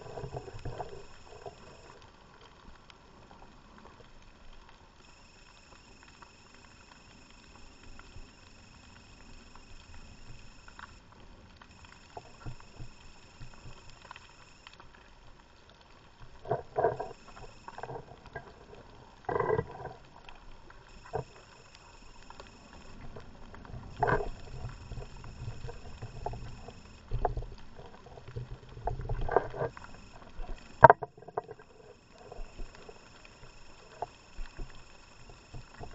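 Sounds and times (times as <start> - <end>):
faint clicks: 0.0 - 35.9.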